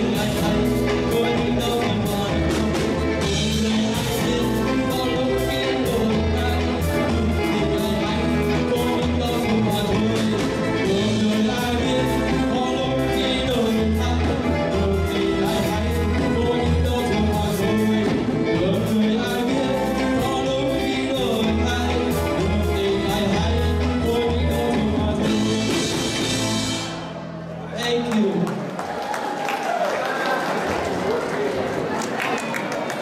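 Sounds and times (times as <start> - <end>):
man singing: 0.0 - 26.9
live rock band playing: 0.0 - 28.2.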